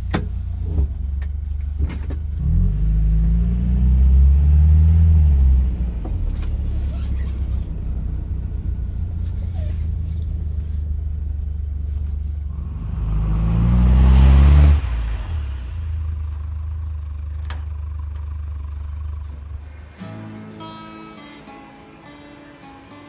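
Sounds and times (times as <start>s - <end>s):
truck engine idling and revving: 0.0s - 21.4s.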